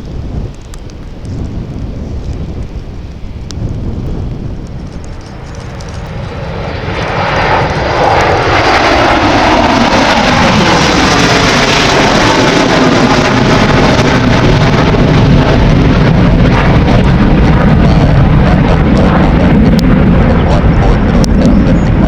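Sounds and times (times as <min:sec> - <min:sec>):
airliner engines passing: 0:00.0 - 0:22.0
wind rumble on microphone: 0:00.0 - 0:22.0.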